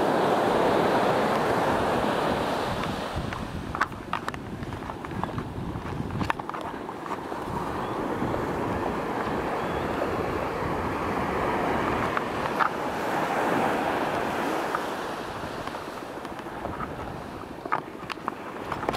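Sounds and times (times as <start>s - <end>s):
small waves breaking on sand: 0.0s - 18.9s.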